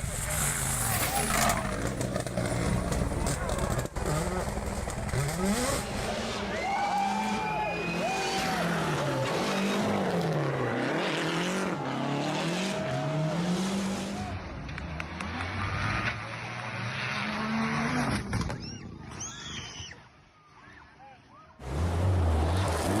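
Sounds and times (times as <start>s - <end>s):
rally car engine revving: 0.0s - 18.4s, 21.6s - 23.0s.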